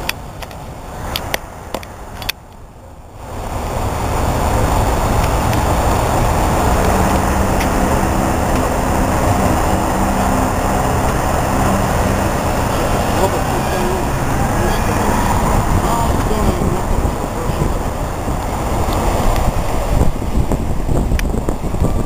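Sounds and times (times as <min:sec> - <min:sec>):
tram rumbling: 0:00.0 - 0:22.0.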